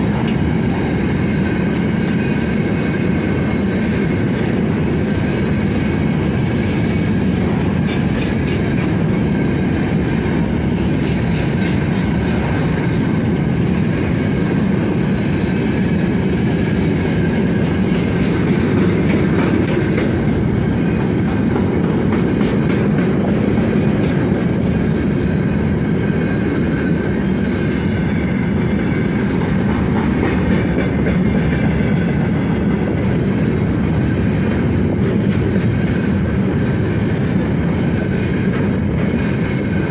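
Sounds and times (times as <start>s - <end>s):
wheels clicking over rail joints: 0.0s - 14.0s, 16.9s - 39.9s
train wheels rumbling on rail: 0.0s - 39.9s.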